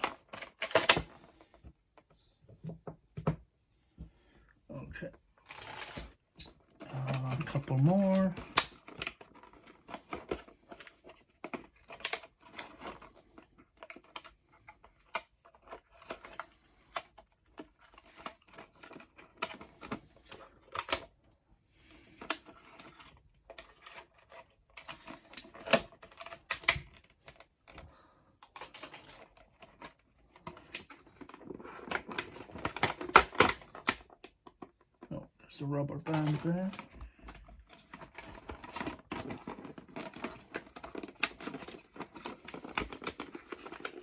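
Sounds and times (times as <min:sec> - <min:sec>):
plastic packaging clicks and crinkles: 0:05.4 - 0:21.2, 0:22.1 - 0:44.0.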